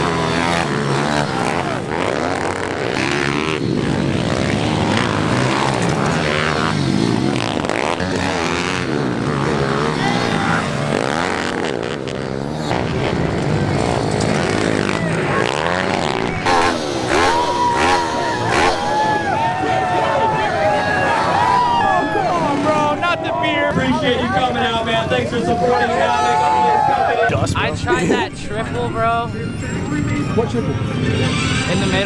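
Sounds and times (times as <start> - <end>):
pit bike engines revving: 0.0 - 32.0.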